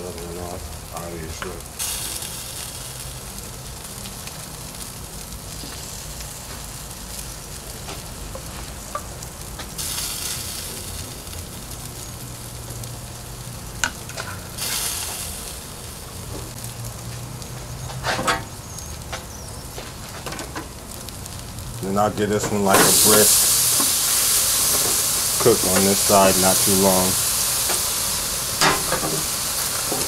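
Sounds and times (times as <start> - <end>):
ribs sizzling on a grill: 0.0 - 30.0.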